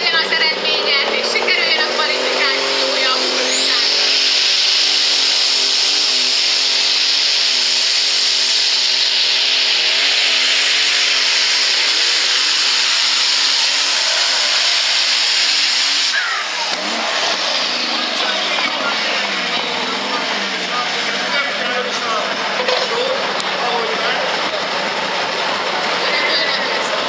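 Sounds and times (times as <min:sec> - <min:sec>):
tractor diesel engine straining: 0:00.0 - 0:27.0.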